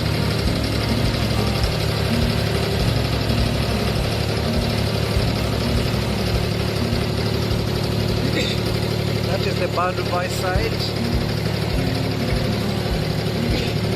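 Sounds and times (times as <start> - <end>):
boat diesel engine running: 0.0 - 13.9.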